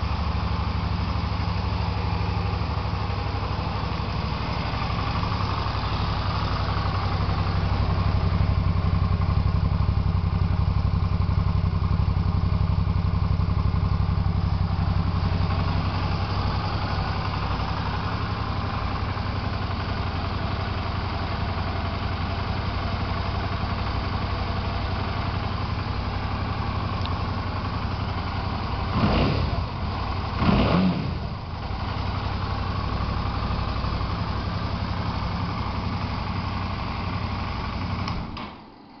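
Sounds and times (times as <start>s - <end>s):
motorcycle engine idling and revving: 0.0s - 39.0s.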